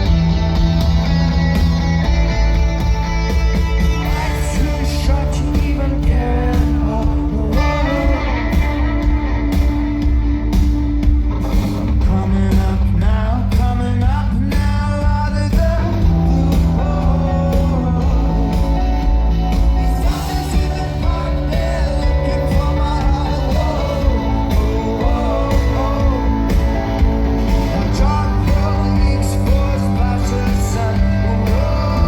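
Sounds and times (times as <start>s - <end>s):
live rock band: 0.0s - 32.0s
lead vocal singing: 3.9s - 10.2s, 11.9s - 32.0s.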